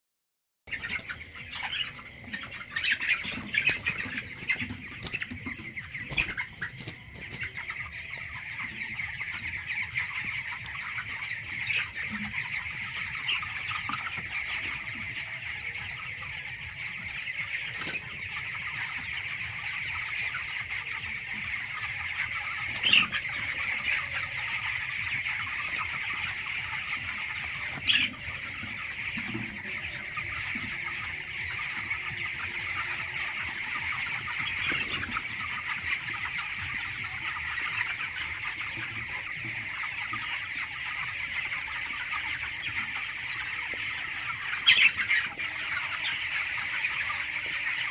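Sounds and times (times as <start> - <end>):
chickens calling: 0.7 - 47.9.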